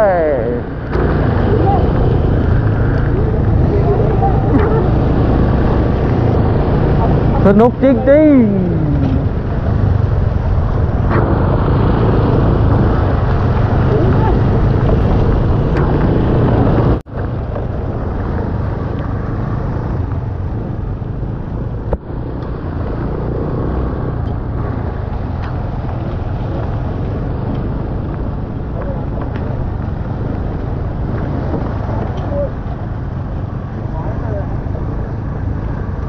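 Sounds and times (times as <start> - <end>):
engine running: 0.0 - 36.0
wind buffeting microphone: 0.0 - 36.0.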